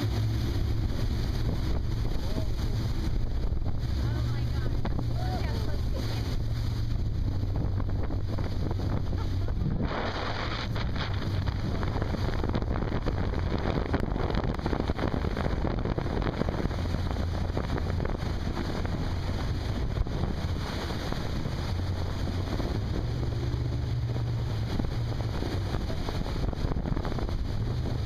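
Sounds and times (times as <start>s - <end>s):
boat motor droning: 0.0s - 28.0s
water rushing: 0.0s - 28.0s
wind buffeting microphone: 0.0s - 28.0s.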